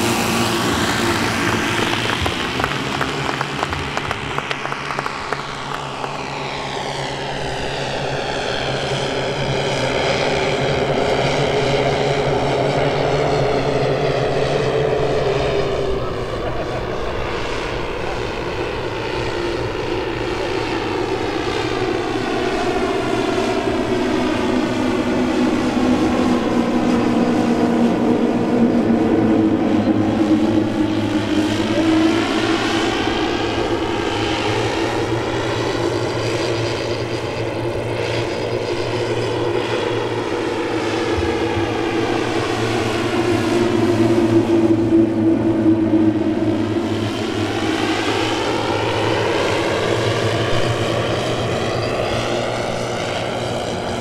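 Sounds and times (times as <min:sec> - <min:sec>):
model plane propeller drone: 0:00.0 - 0:54.0.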